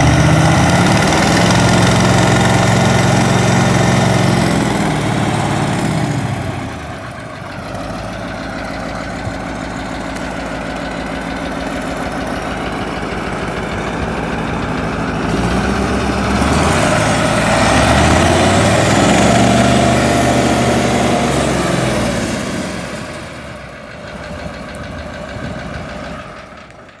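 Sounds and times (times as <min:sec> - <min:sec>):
diesel tractor engine revving: 0:00.0 - 0:27.0.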